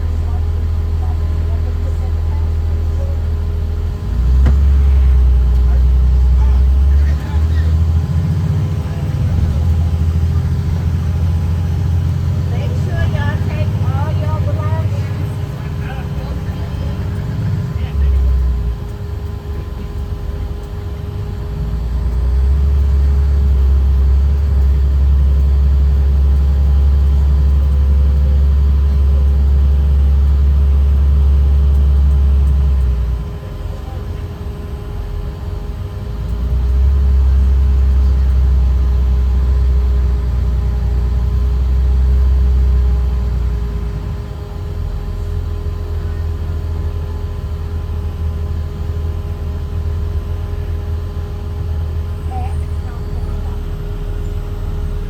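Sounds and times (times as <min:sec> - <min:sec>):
diesel bus engine drone: 0:00.0 - 0:55.0.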